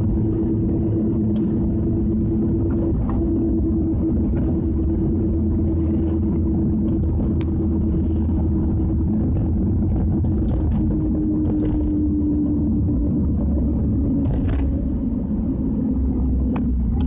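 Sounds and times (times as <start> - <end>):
car road rumble: 0.0 - 17.0
droning whine: 0.0 - 17.0.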